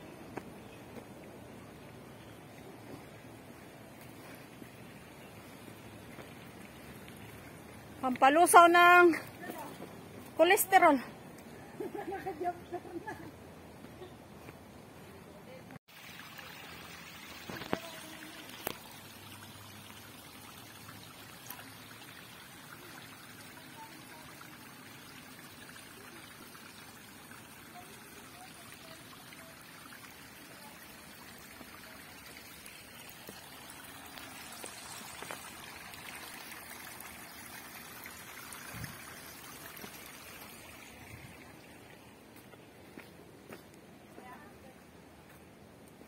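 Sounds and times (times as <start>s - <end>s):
stream trickling over rock: 0.3s - 12.1s, 15.8s - 43.6s.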